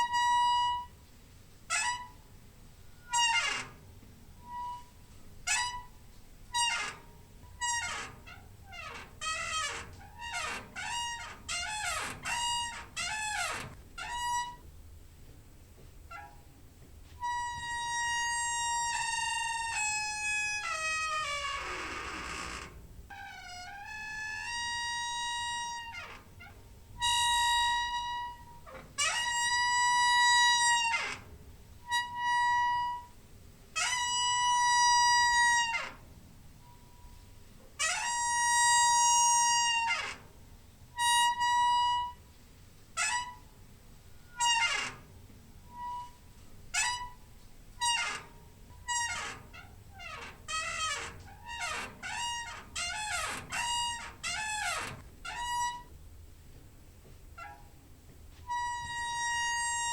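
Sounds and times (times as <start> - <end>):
door hinge squeaking: 0.0 - 1.0, 1.7 - 14.8, 15.8 - 16.6, 17.2 - 33.2, 33.8 - 37.2, 37.8 - 42.3, 42.9 - 56.0, 57.3 - 57.8, 58.4 - 59.9.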